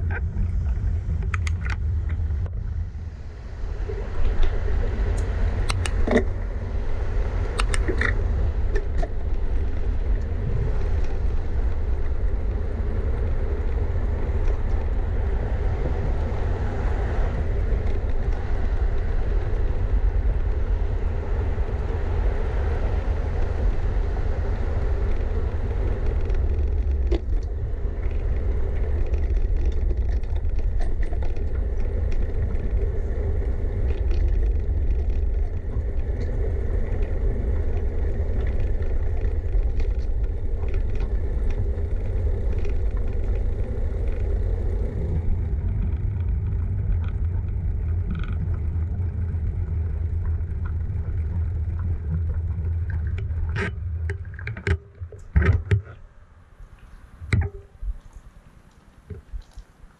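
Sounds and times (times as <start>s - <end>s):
bicycle road noise: 0.0s - 59.9s
wind rumble on microphone: 0.0s - 59.9s.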